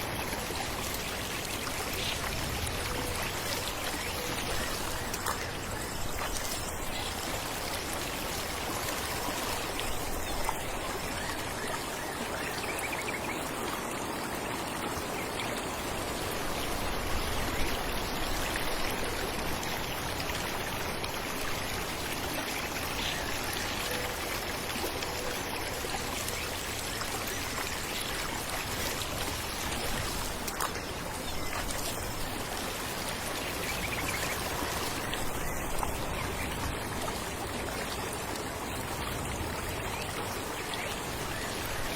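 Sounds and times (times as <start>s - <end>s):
falling water rushing: 0.0s - 41.9s.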